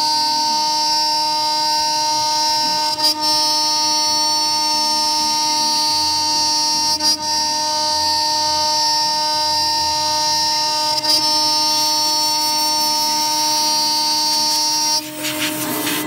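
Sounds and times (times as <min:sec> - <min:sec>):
cnc spindle milling metal whine: 0:00.0 - 0:16.0.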